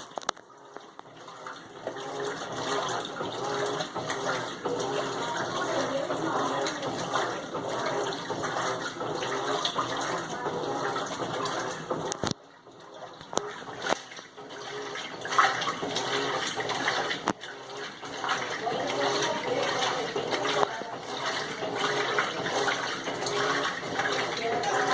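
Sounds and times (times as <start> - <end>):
water churning in washing machine: 0.0 - 24.9.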